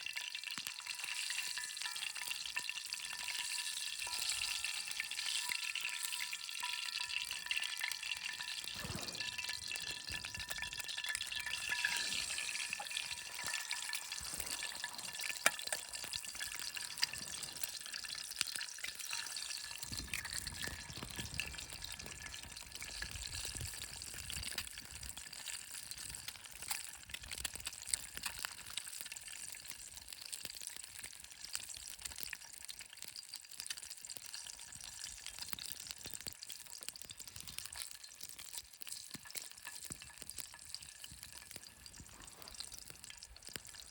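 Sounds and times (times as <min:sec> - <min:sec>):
crackles and pops: 0:00.0 - 0:43.9
food sizzling in oil: 0:00.0 - 0:43.9.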